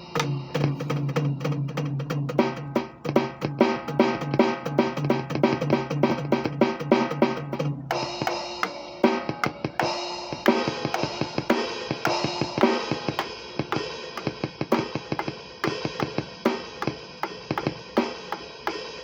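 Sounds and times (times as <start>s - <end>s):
kick and snare drum beat: 0.0s - 19.0s.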